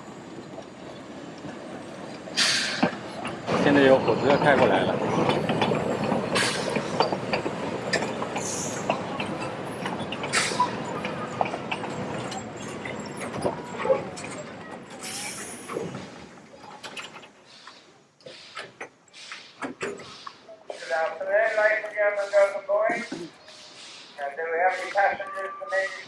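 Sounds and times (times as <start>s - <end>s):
steam train rolling: 0.0s - 26.0s
running gear clicks and clanks: 0.4s - 23.7s.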